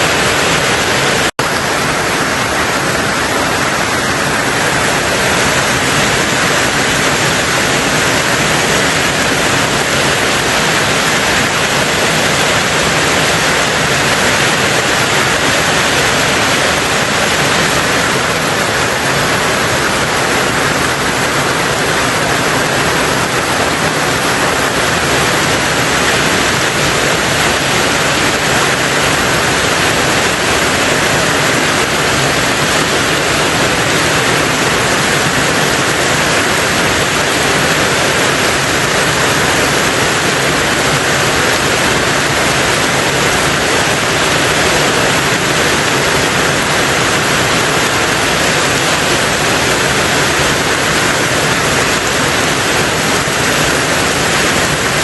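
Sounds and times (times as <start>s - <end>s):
heavy rain on a tin roof: 0.0s - 55.0s.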